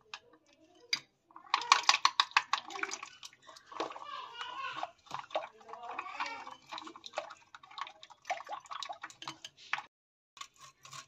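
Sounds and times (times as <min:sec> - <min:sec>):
metal spoon stirring in bowl: 0:00.0 - 0:11.0.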